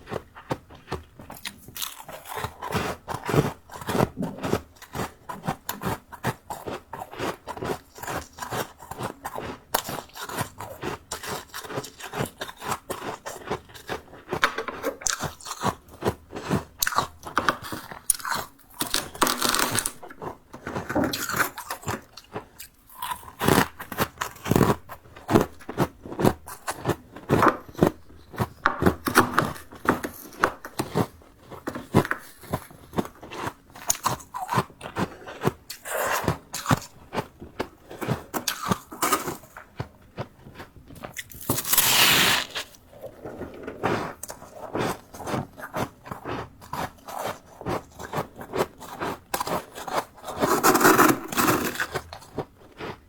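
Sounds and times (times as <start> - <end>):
frost being chewed: 0.0 - 53.0.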